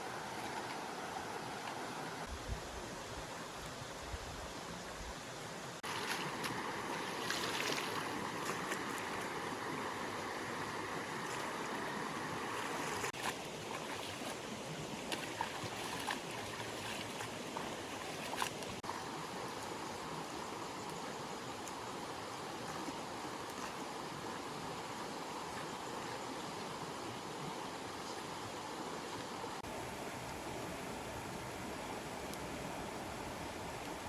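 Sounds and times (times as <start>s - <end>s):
stream water running: 0.0s - 34.0s.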